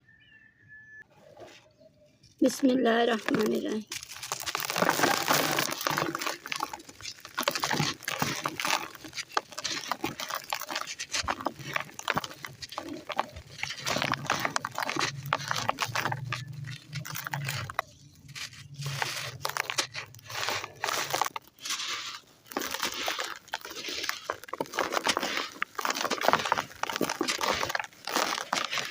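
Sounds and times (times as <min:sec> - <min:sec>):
sand crumbling by hand: 0:03.0 - 0:28.9.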